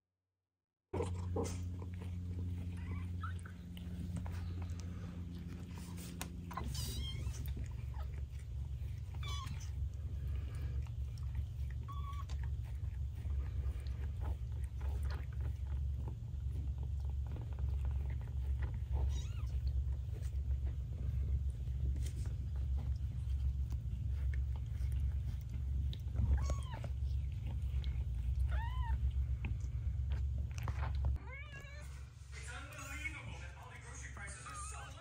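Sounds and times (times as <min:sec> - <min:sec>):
cat purring: 0:01.0 - 0:33.0.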